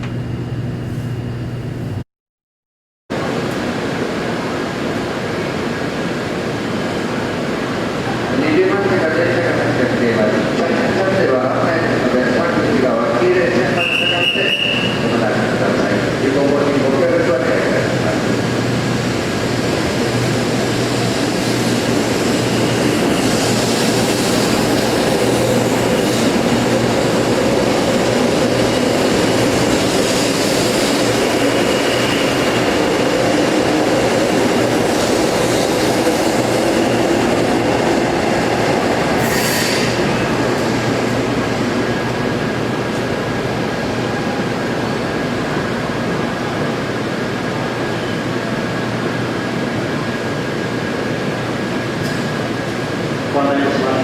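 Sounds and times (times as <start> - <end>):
train whine: 3.1 - 54.0
train wheels rumbling: 4.9 - 54.0.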